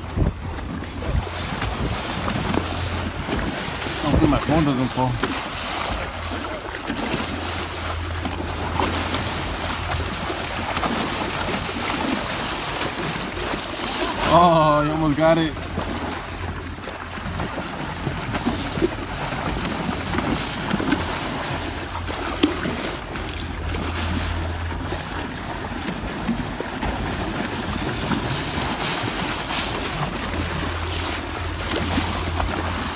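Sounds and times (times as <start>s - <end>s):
low steady hum: 0.0s - 32.9s
water splashing along boat hull: 0.0s - 32.9s
wind buffeting microphone: 0.0s - 32.9s.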